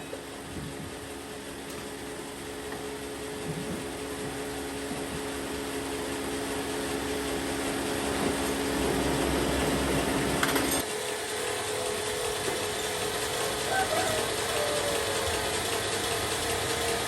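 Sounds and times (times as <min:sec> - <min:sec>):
workshop machinery hum: 0:00.0 - 0:17.0.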